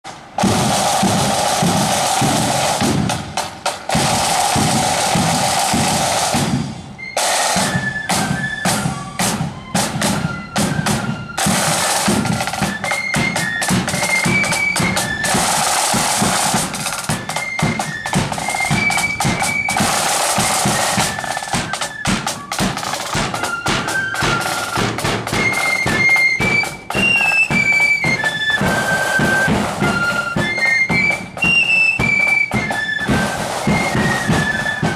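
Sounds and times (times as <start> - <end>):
snare drums rolling rhythm: 0.1 - 34.9
flutes playing high tune: 0.4 - 34.9.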